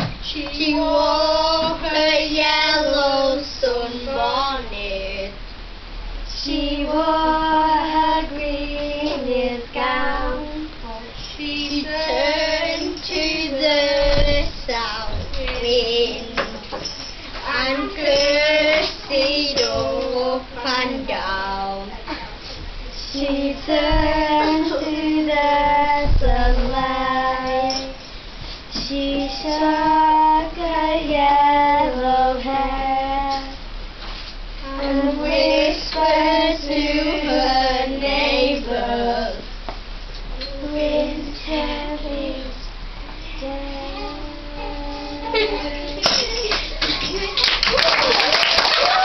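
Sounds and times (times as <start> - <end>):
children singing: 0.0 - 5.3, 6.4 - 21.1, 23.0 - 28.0, 28.8 - 33.5, 34.6 - 39.5, 40.4 - 47.3.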